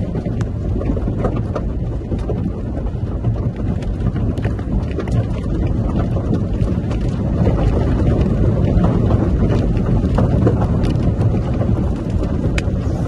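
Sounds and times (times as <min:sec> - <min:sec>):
vehicle driving on dirt road: 0:00.0 - 0:13.0
wind noise: 0:00.0 - 0:13.0.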